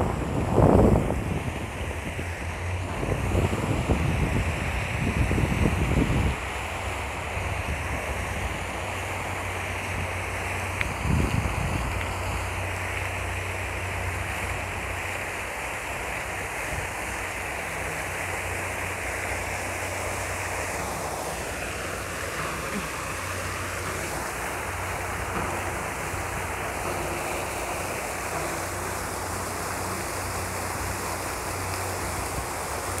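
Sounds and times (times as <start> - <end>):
fountain water splashing: 0.0 - 33.0.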